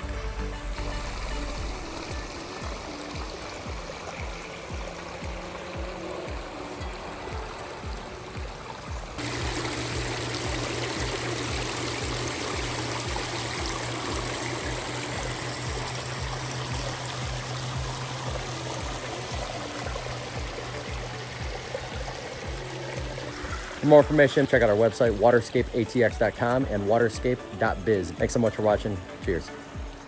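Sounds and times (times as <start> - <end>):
background music with steady beat: 0.0 - 30.0
water trickling over boulders: 0.0 - 30.0.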